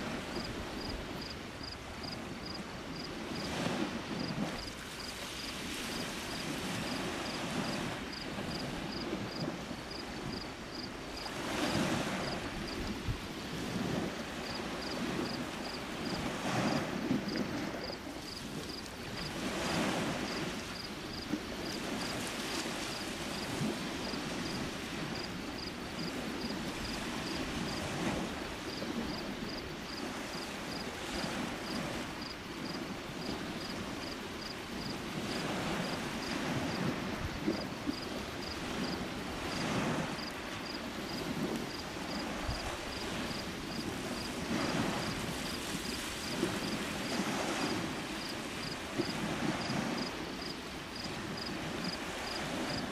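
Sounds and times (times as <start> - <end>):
small waves washing on shore: 0.0 - 52.9.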